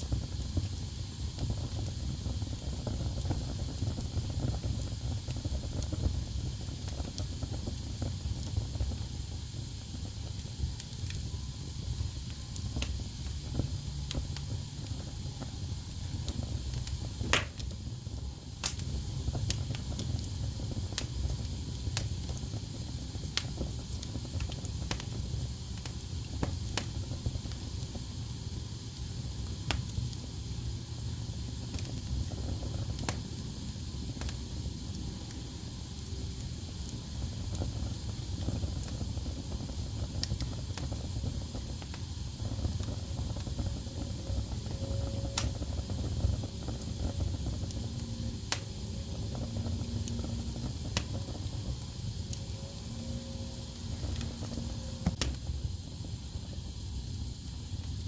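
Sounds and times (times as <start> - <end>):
logs crackling and popping: 0.0 - 30.3, 31.4 - 58.0
fire flames rumbling: 0.0 - 58.0.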